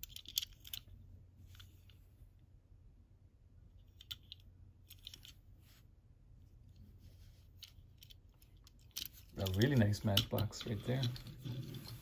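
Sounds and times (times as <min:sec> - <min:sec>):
quiet background hum: 0:00.0 - 0:12.0.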